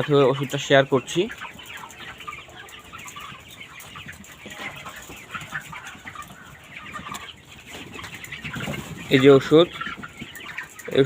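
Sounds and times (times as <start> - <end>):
chickens clucking and cheeping: 0.0 - 11.0.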